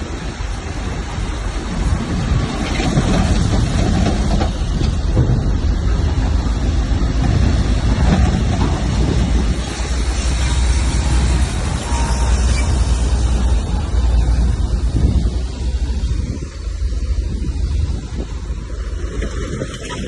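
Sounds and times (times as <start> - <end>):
heavy diesel engine rumbling: 0.0 - 20.0.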